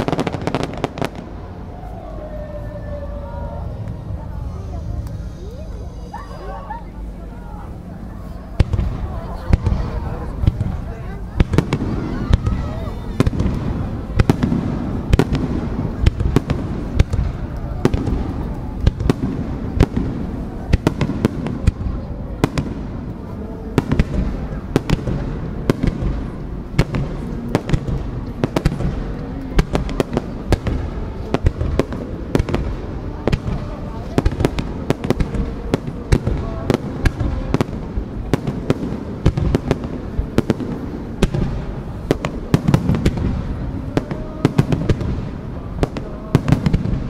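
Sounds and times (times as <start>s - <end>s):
fireworks bursting: 0.0s - 2.0s, 3.1s - 47.0s
continuous low rumble: 0.0s - 47.0s.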